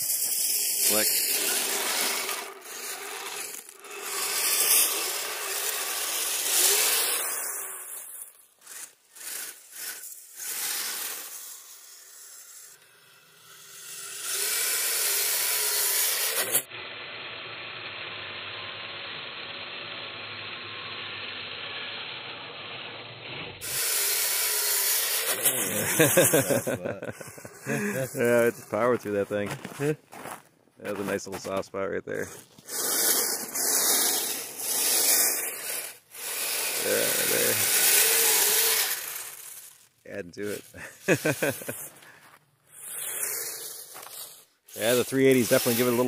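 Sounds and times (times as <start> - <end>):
tyres grinding on icy snow: 0.0 - 16.8, 17.5 - 46.0
small electric motors running: 0.0 - 29.4, 32.3 - 46.0.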